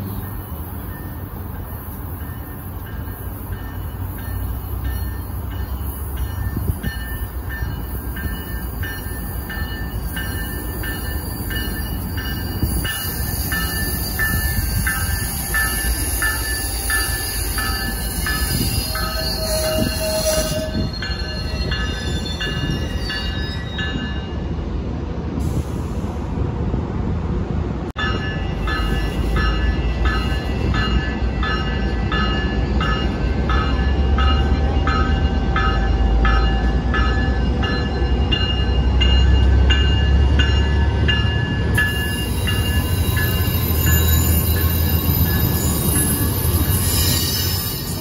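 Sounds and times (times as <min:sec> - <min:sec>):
train bell ringing: 0:00.0 - 0:24.6, 0:28.0 - 0:48.0
train rumbling past: 0:00.0 - 0:48.0.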